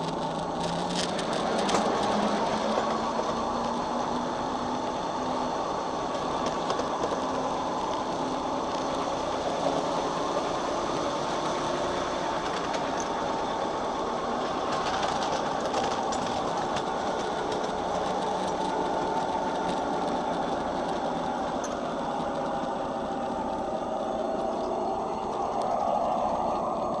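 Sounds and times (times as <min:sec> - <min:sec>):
model locomotive running on rails: 0:00.0 - 0:27.0.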